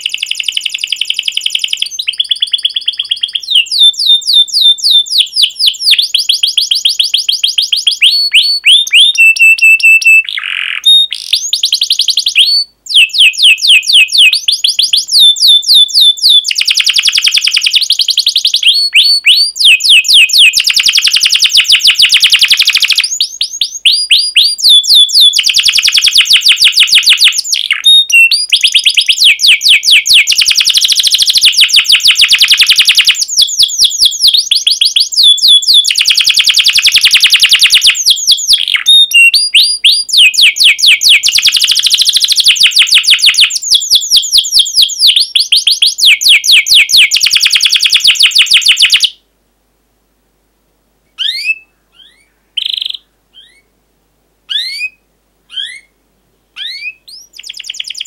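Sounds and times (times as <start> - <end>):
canary singing trills: 0.0 - 49.2, 51.2 - 53.7, 54.5 - 56.0, 56.6 - 58.0.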